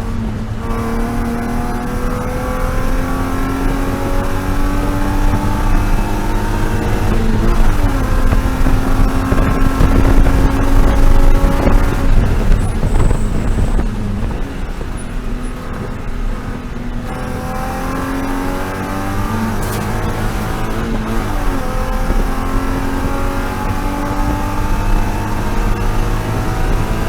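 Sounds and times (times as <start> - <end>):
race car engine running hard: 0.0 - 27.0.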